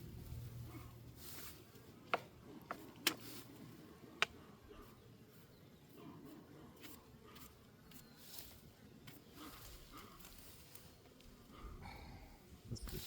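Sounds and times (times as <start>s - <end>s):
honeybees buzzing: 1.0s - 13.0s.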